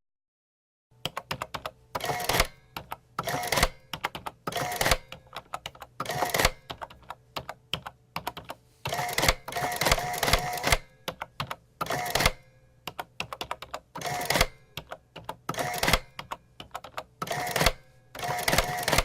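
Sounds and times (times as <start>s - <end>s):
adding machine key clicks: 1.0s - 19.0s.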